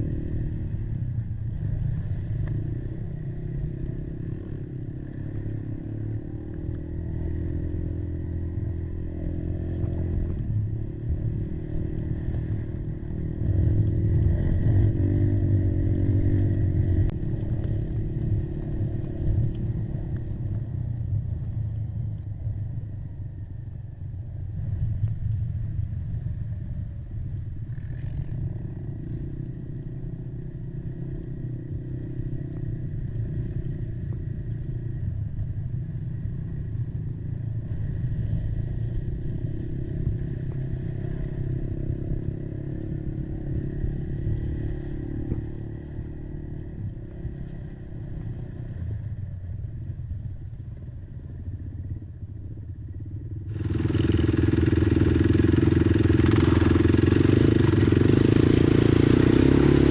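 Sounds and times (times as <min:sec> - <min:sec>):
quad engine running: 0:00.0 - 0:59.9.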